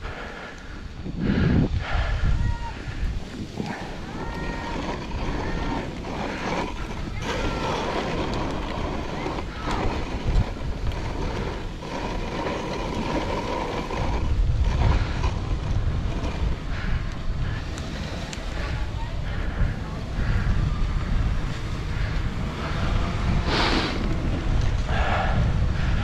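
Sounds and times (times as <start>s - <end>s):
sled runners sliding over snow: 0.0s - 26.0s
wind rumbling on microphone: 0.0s - 26.0s.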